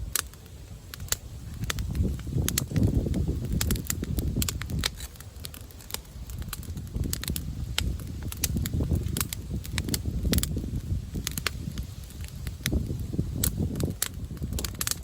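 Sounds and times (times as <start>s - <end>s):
campfire crackling and popping: 0.0s - 15.0s
wind buffeting microphone: 0.0s - 15.0s.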